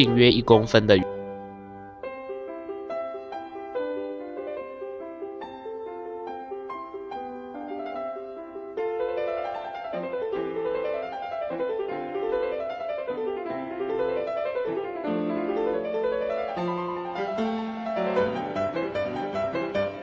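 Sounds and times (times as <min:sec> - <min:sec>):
piano arpeggios: 0:00.0 - 0:20.0.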